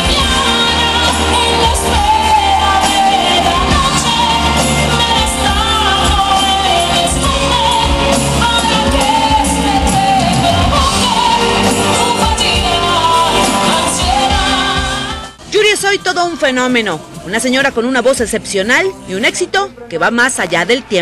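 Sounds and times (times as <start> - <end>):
pop band with drum beat: 0.0 - 19.3
woman singing: 0.0 - 21.0.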